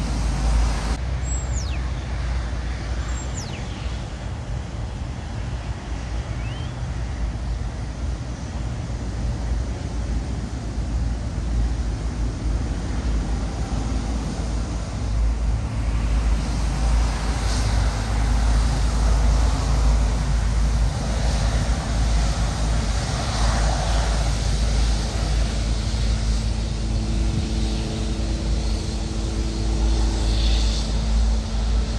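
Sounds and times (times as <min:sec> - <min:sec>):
jet engine rushing: 0:00.0 - 0:31.9
wind rumble on microphone: 0:00.0 - 0:31.9.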